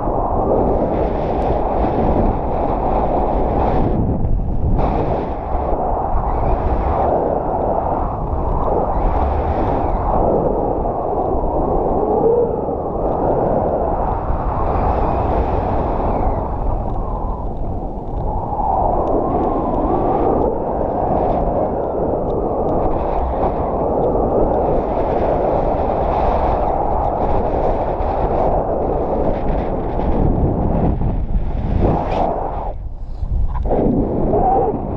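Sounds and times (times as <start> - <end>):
wind rumbling on microphone: 0.0 - 34.9.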